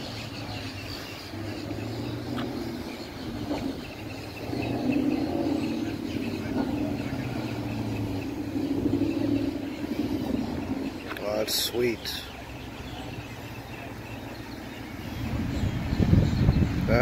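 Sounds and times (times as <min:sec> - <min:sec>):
car engine burbling: 0:00.0 - 0:17.0.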